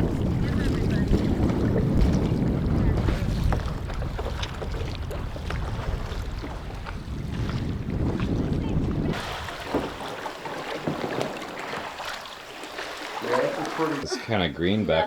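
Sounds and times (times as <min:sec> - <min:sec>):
wind buffeting microphone: 0:00.0 - 0:12.1
kayak paddle water splashes: 0:00.0 - 0:15.0.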